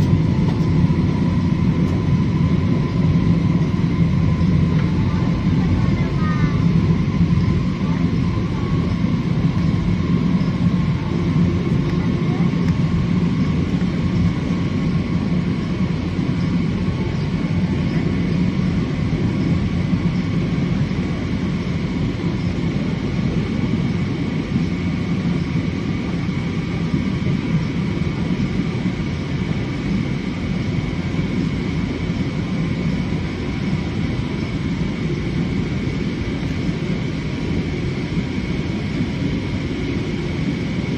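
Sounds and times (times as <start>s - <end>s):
airliner cabin engine rumble: 0.0s - 40.9s
faint steady whines: 0.0s - 40.9s.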